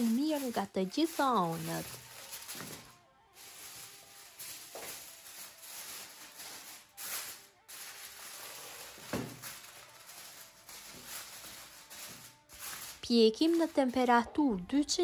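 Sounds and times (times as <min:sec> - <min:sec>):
aluminium foil crinkling: 0:00.0 - 0:14.1.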